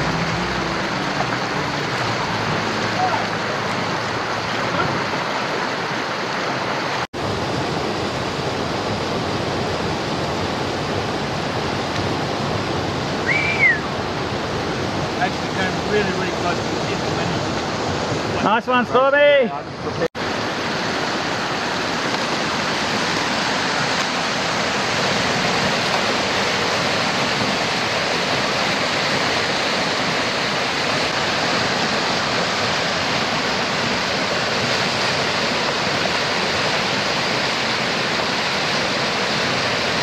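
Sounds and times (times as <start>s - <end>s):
river rapids rushing: 0.0s - 40.0s.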